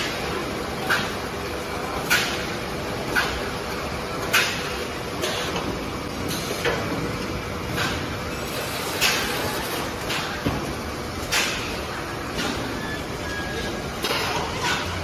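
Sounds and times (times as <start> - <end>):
packing machine running: 0.0 - 15.0.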